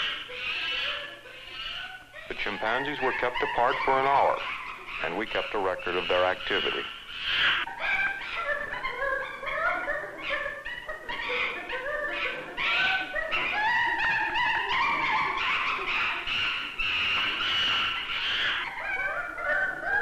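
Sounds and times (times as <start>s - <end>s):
young chimpanzees calling: 0.0s - 20.0s.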